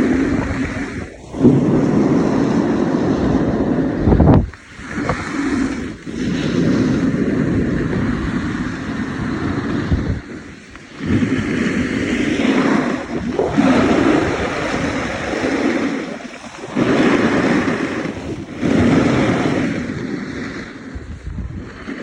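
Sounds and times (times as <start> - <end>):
snowboard scraping icy snow: 0.0 - 22.0
wind rushing over microphone: 0.0 - 22.0.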